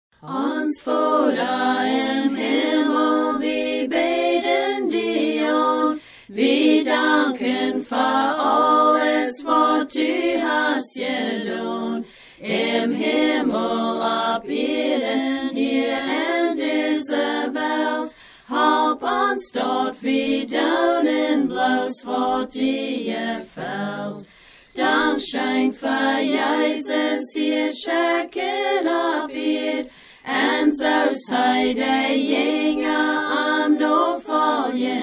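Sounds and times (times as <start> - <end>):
unaccompanied hymn singing: 0.2 - 35.0.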